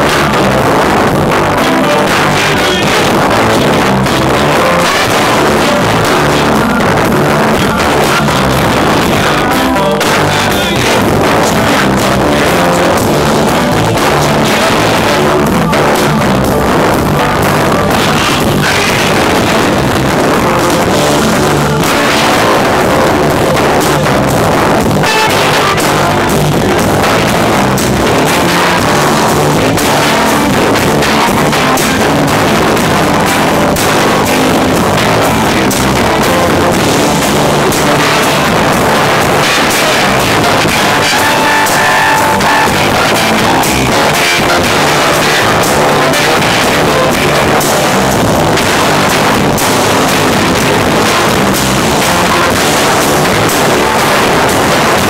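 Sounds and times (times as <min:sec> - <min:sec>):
drum kit beat: 0:00.0 - 0:55.0
electric guitar: 0:00.0 - 0:55.0
live rock band playing: 0:00.0 - 0:55.0.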